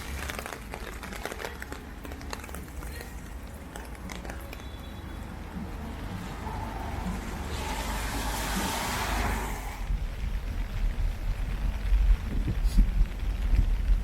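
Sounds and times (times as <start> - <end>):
raindrops tapping: 0.0 - 14.0
steady low rumble of rain: 0.0 - 14.0.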